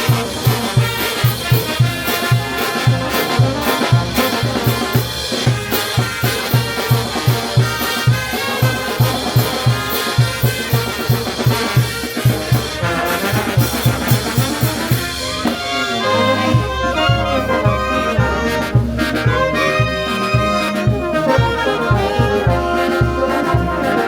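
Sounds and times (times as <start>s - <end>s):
bass drum beat: 0.0s - 24.0s
trumpets and trombones: 0.0s - 24.0s.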